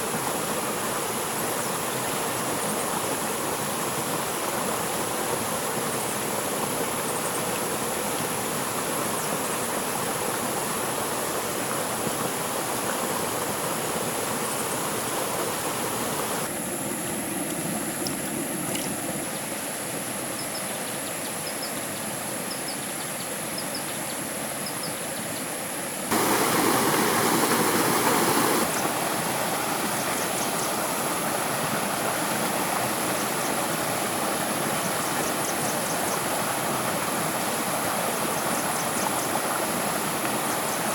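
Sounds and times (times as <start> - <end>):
stream running water: 0.0 - 20.4, 25.9 - 40.9.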